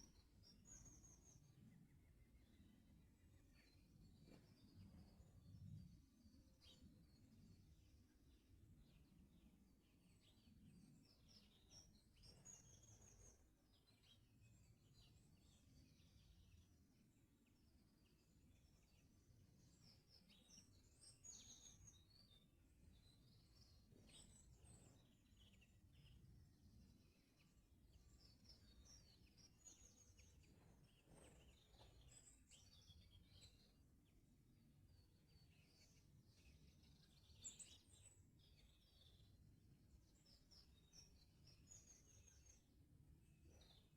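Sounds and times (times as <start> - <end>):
songbird chirps and trills: 0.0 - 43.9.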